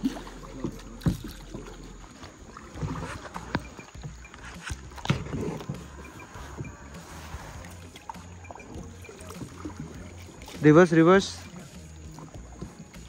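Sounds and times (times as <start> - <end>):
paddles splashing in water: 0.0 - 13.0.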